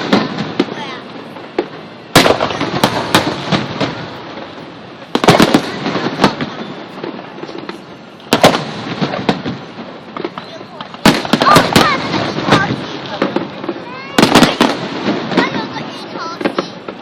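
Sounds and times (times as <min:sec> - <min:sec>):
firework bangs: 0:00.0 - 0:17.0
fireworks crackling: 0:00.0 - 0:17.0.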